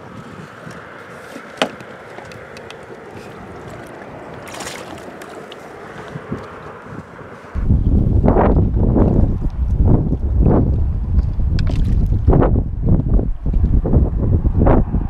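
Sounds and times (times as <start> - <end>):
water lapping on boat hull: 0.0 - 7.6, 8.6 - 13.7.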